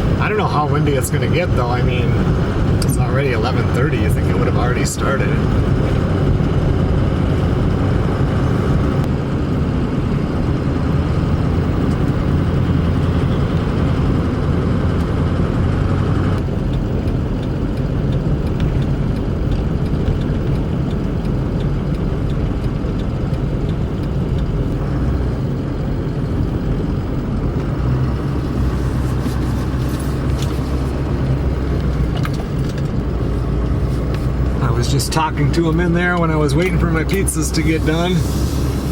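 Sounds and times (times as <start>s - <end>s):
vehicle road and engine rumble: 0.0s - 38.9s.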